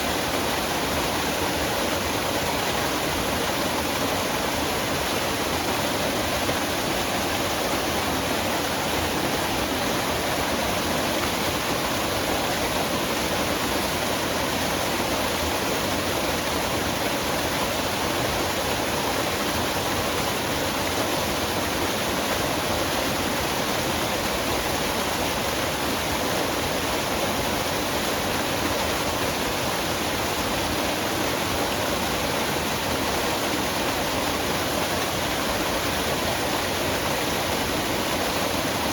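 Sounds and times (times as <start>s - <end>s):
waterfall splashing: 0.0s - 38.9s.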